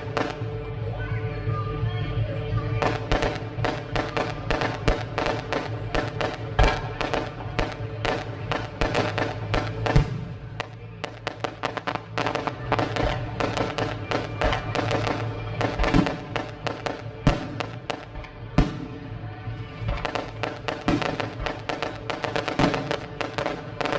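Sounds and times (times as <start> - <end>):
fireworks bangs and crackles: 0.0 - 23.9.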